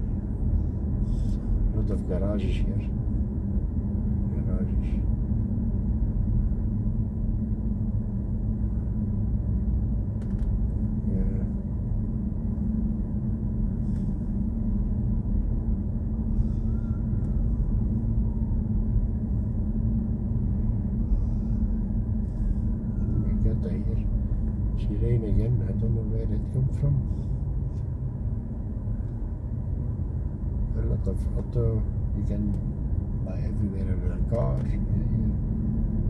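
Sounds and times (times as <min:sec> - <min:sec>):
road and tyre rumble: 0:00.0 - 0:36.0.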